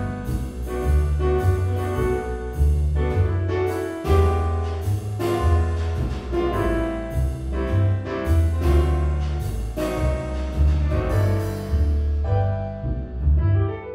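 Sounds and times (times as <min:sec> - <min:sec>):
instrumental background music: 0:00.0 - 0:13.9.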